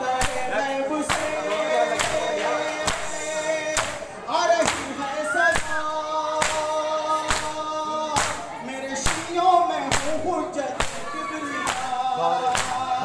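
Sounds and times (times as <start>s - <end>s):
crowd striking chests in unison: 0.1s - 13.0s.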